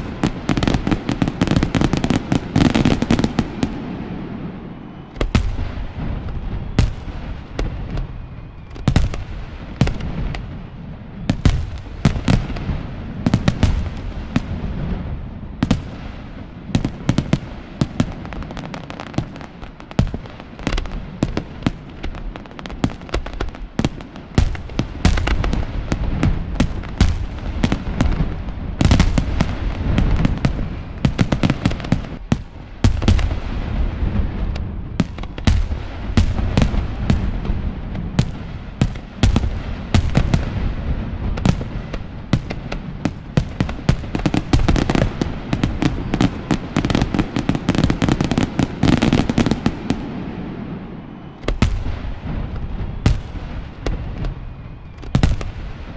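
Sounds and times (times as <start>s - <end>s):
echoing booms: 0.0s - 55.9s
fireworks bangs and crackling: 0.0s - 55.9s.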